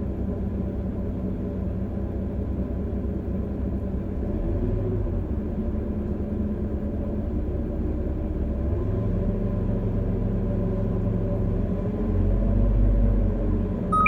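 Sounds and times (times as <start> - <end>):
van low droning rumble: 0.0 - 13.9.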